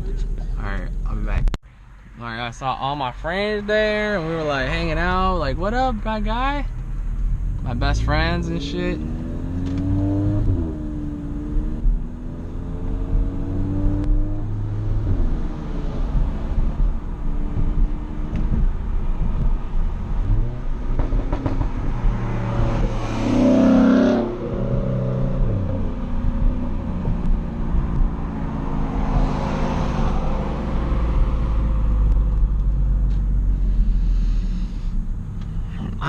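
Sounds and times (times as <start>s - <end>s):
car engine revving: 4.5s - 36.0s.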